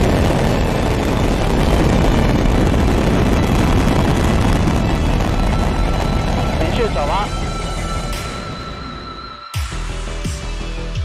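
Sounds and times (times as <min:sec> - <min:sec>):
rocket engines rumbling: 0:00.0 - 0:09.4.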